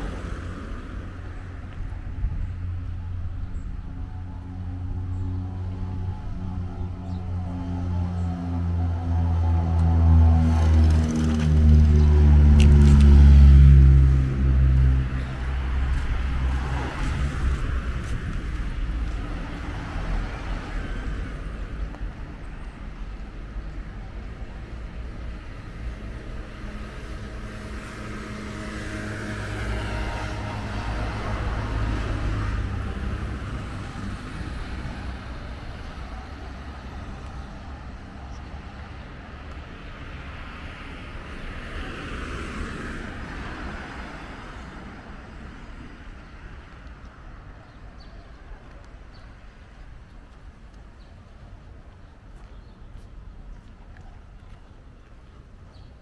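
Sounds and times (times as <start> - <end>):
low traffic noise: 0.0 - 56.0
vehicles passing: 0.0 - 56.0.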